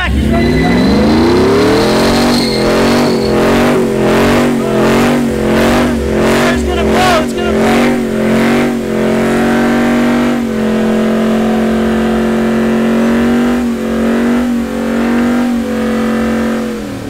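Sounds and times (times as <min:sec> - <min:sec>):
tyres spinning: 0:00.0 - 0:16.9
truck engine at high revs: 0:00.0 - 0:17.0.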